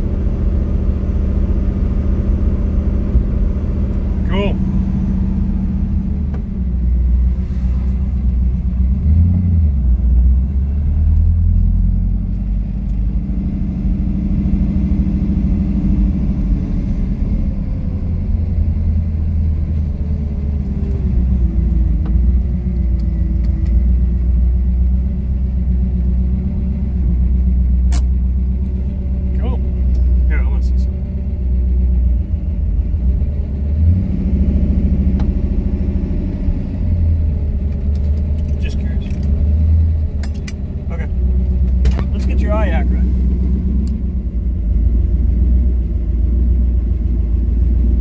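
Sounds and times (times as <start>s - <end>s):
car engine rumbling: 0.0s - 48.0s.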